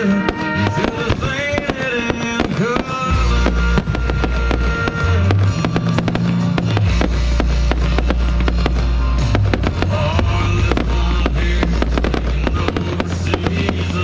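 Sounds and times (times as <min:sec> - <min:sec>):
fireworks bangs and crackles: 0:00.0 - 0:14.0
loud music with deep bass: 0:00.0 - 0:14.0.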